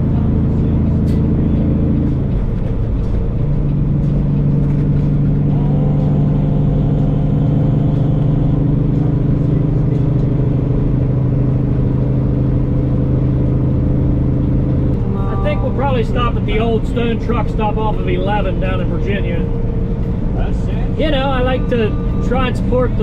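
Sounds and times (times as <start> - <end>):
road noise: 0.0 - 23.0
truck diesel engine running: 0.0 - 23.0.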